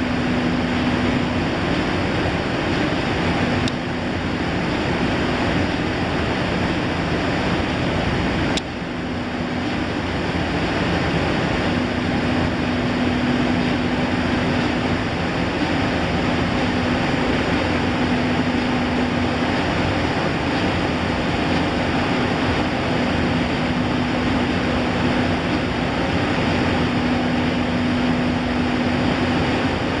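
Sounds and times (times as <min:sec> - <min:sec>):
low hum: 0:00.0 - 0:30.0
machinery roaring: 0:00.0 - 0:30.0.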